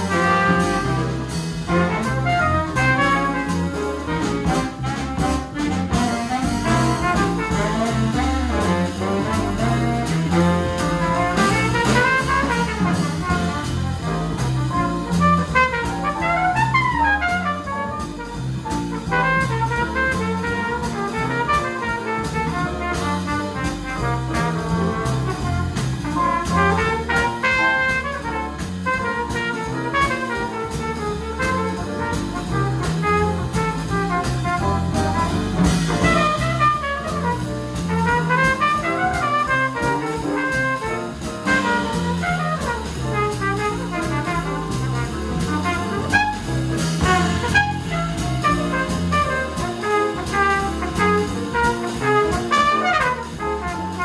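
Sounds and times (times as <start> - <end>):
drums: 0.0 - 54.0
electric bass: 0.0 - 54.0
piano: 0.0 - 54.0
trumpet: 0.0 - 54.0.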